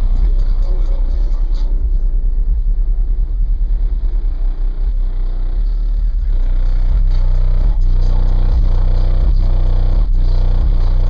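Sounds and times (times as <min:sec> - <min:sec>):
pulsing deep subwoofer bass: 0:00.0 - 0:11.0.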